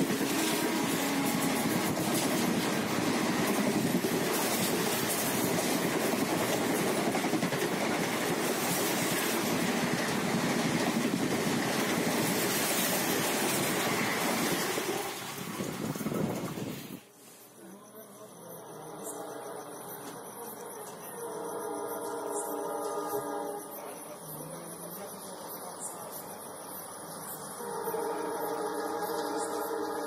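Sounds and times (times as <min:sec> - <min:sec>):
train rumbling on rails: 0:00.0 - 0:17.2, 0:17.8 - 0:30.0.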